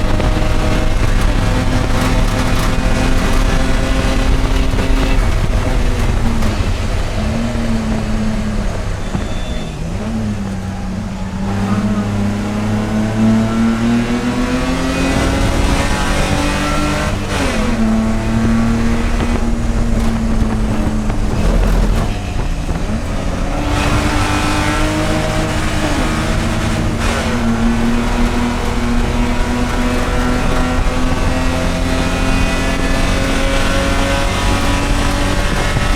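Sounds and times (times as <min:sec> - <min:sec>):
race car engine accelerating: 0:00.0 - 0:35.9.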